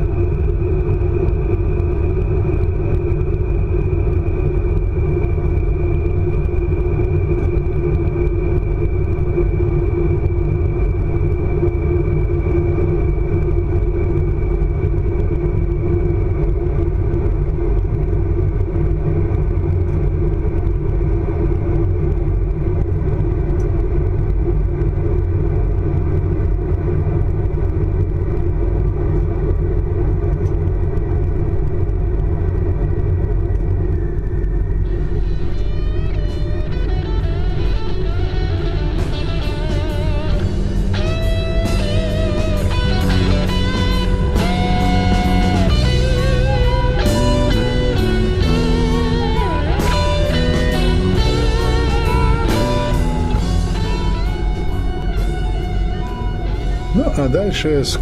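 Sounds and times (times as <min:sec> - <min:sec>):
thin high whine: 0:00.0 - 0:58.0
train rumble on board: 0:00.0 - 0:58.0.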